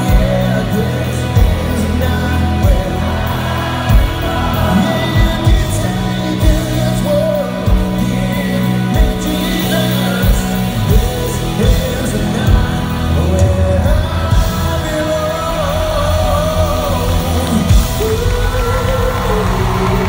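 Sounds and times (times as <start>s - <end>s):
bass guitar: 0.0s - 20.0s
drums: 0.0s - 20.0s
electric guitar: 0.0s - 20.0s
singer singing: 0.0s - 20.0s.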